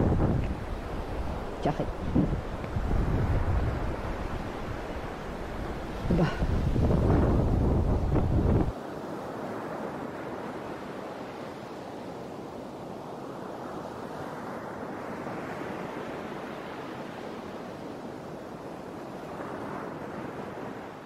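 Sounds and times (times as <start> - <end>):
sea: 0.0 - 21.0
wind: 0.0 - 21.0.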